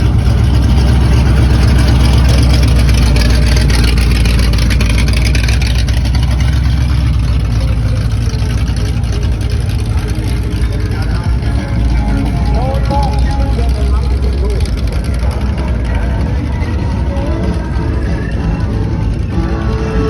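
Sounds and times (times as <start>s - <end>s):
car engine deep rumble: 0.0s - 20.0s.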